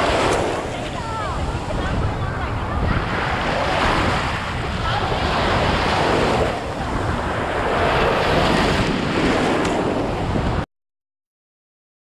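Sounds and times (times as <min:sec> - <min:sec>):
ocean surf breaking: 0:00.0 - 0:10.6.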